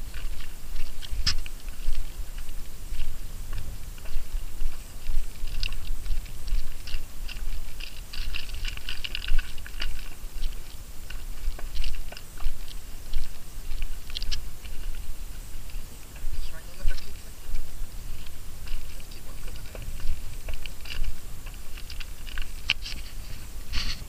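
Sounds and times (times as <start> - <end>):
wind buffeting microphone: 0.0 - 24.0
crackling clicks: 0.1 - 24.0.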